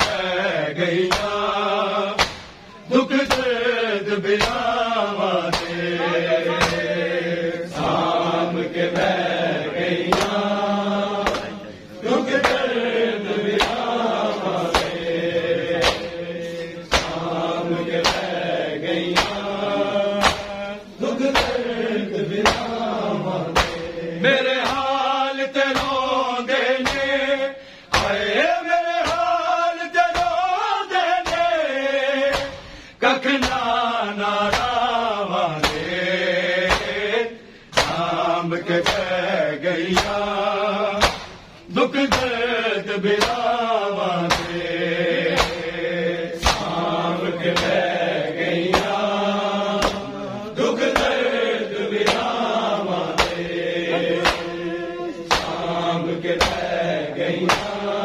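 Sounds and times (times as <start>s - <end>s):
palms slapping bare chests: 0.0s - 2.6s, 3.2s - 3.6s, 4.2s - 5.9s, 6.5s - 6.9s, 10.0s - 10.6s, 11.2s - 24.0s, 24.6s - 27.2s, 27.9s - 28.4s, 29.0s - 33.8s, 34.4s - 37.1s, 37.7s - 39.2s, 39.8s - 42.4s, 43.1s - 50.2s, 50.8s - 57.9s
men chanting in unison: 0.0s - 58.0s.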